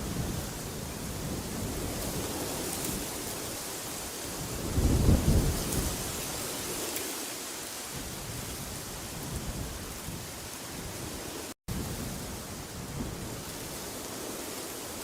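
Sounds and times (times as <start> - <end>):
rushing wind with deep gust: 0.0 - 15.0.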